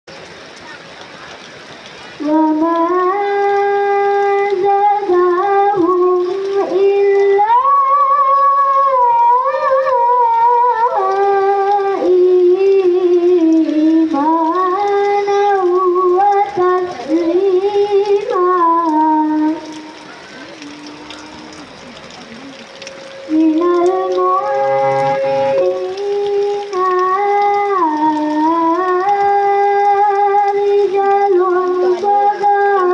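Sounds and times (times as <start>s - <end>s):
child singing: 2.2s - 20.0s, 23.3s - 32.9s.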